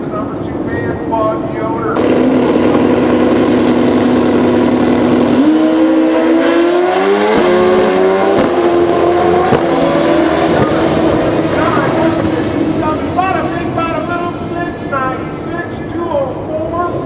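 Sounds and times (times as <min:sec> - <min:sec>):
motorcycle engines accelerating: 0:00.0 - 0:17.0.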